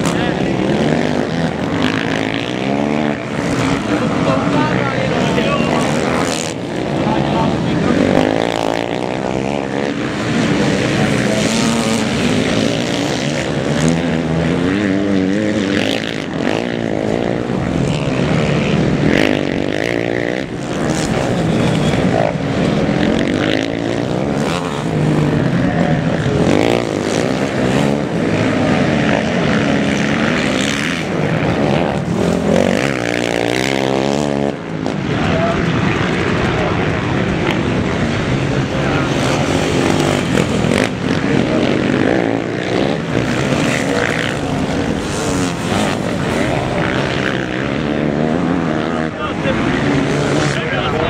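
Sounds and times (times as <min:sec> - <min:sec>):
motorcycle engines idling and revving: 0:00.0 - 0:51.0.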